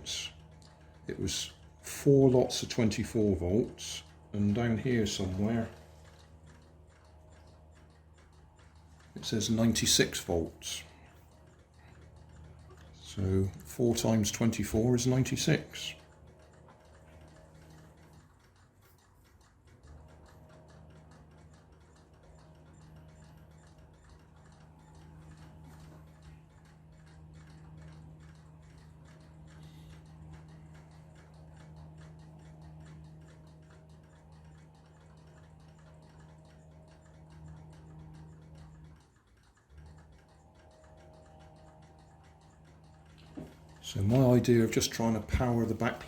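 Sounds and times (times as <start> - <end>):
faint regular ticking: 0.0 - 46.0
low steady hum: 0.0 - 46.0.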